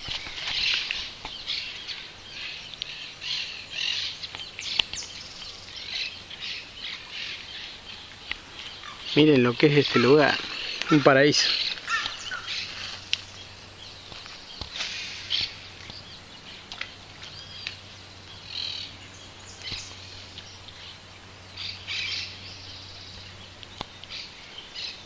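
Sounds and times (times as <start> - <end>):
birds chirping and calling: 0.0 - 25.0.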